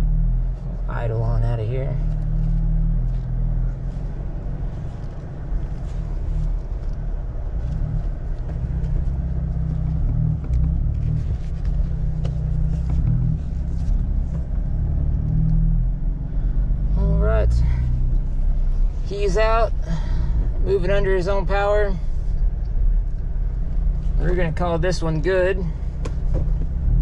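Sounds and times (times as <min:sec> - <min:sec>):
car engine low rumble: 0:00.0 - 0:27.0.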